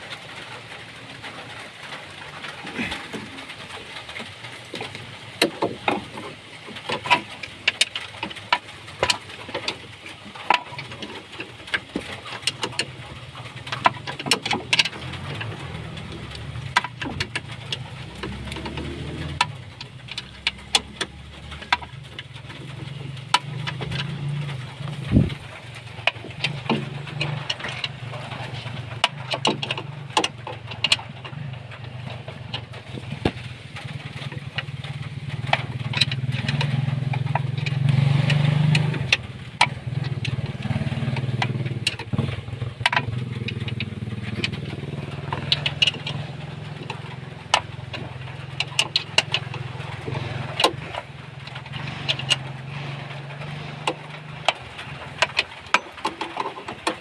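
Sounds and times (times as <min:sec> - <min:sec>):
metal clicks and knocks: 0:01.2 - 0:57.0
low engine hum: 0:08.3 - 0:57.0.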